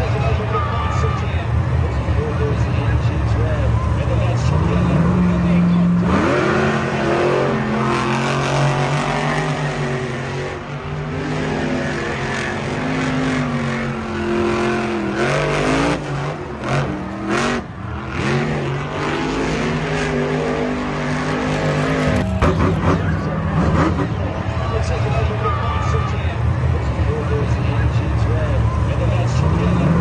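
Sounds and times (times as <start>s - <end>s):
vehicle engines revving: 0.0s - 30.0s.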